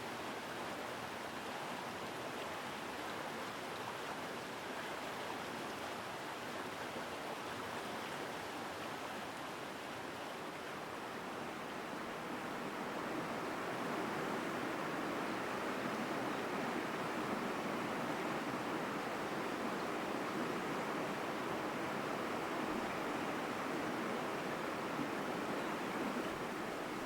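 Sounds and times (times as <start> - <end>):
stream rushing over rocks: 1.0 - 27.0.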